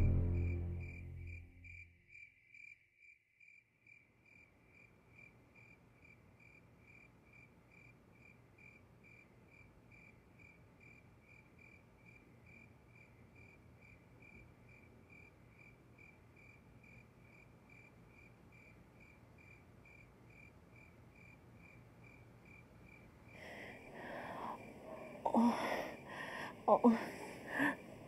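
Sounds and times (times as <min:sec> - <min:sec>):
faint cricket chirping: 0:00.0 - 0:28.0.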